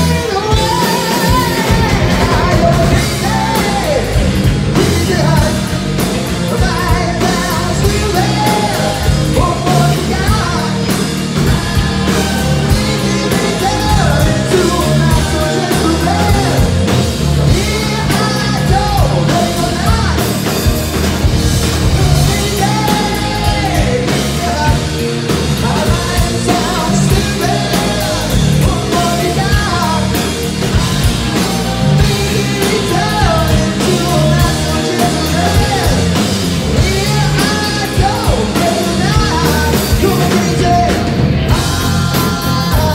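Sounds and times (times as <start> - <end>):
drum kit: 0.0 - 42.9
electric bass: 0.0 - 42.9
electric guitar: 0.0 - 42.9
lead vocal singing: 0.0 - 42.9.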